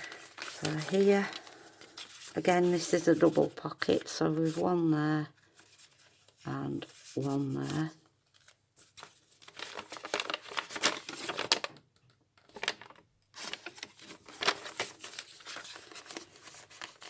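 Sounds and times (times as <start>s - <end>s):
paper and card rustling: 0.0s - 11.8s, 12.5s - 17.0s.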